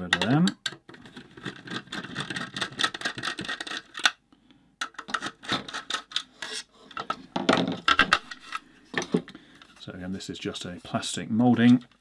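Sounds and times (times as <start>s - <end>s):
plastic parts scraping and clicking: 0.0s - 4.2s, 4.8s - 9.9s, 10.8s - 12.0s.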